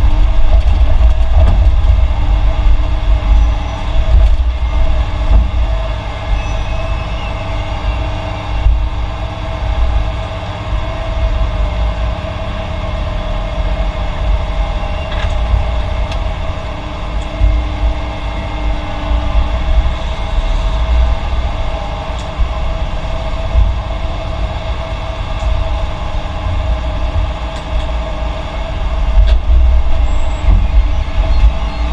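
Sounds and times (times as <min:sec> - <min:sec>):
diesel construction machinery rumbling: 0:00.0 - 0:31.9.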